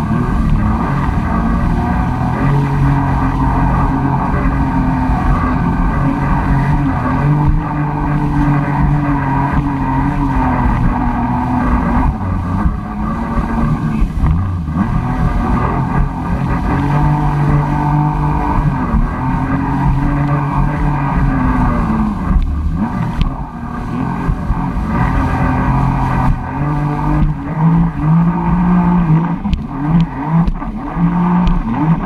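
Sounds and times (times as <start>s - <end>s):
jet ski engine running: 0.0s - 32.0s
water rushing: 0.0s - 32.0s
wind on microphone: 0.0s - 32.0s.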